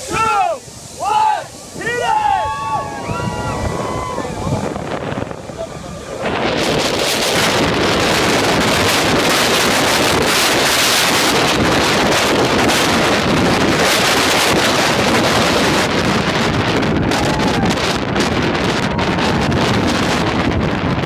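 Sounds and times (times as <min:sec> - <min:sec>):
jet engines at takeoff thrust: 0:00.0 - 0:21.0
wind buffeting microphone: 0:00.0 - 0:21.0.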